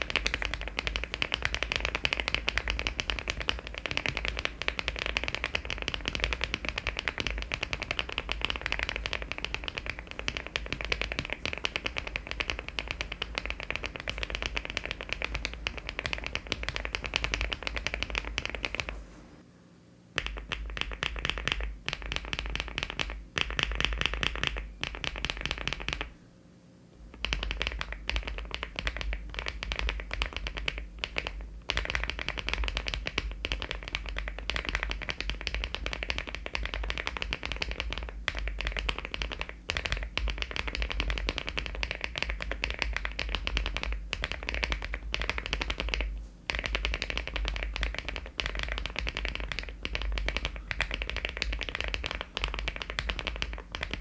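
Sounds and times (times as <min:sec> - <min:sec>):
mechanical keyboard typing: 0:00.0 - 0:18.9, 0:20.2 - 0:26.1, 0:27.1 - 0:54.0.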